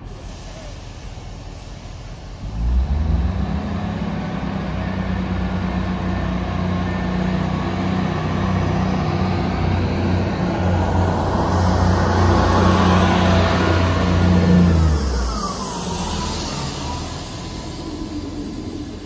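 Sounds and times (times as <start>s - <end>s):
train diesel engine drone: 0.0s - 19.0s.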